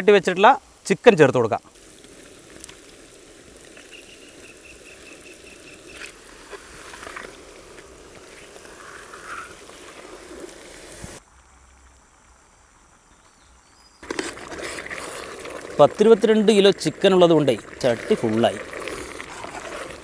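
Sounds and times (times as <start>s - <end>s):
wood fire crackles: 0.0s - 13.3s, 14.0s - 20.0s
low hiss of cooking: 0.0s - 20.0s.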